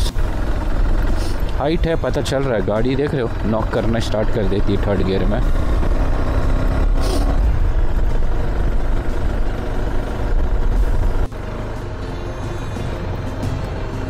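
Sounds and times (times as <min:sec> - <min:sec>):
motorcycle engine rumbling uphill: 0:00.0 - 0:14.0.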